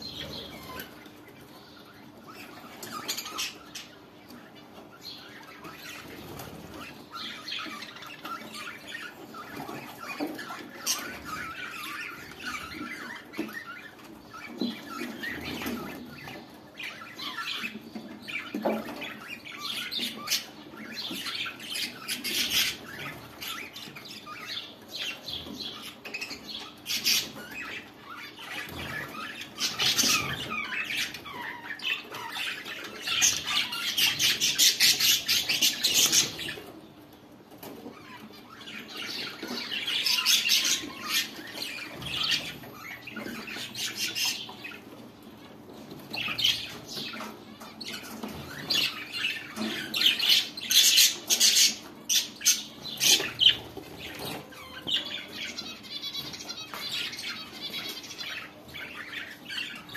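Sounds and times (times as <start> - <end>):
budgerigars chattering and squawking: 0.0 - 59.9.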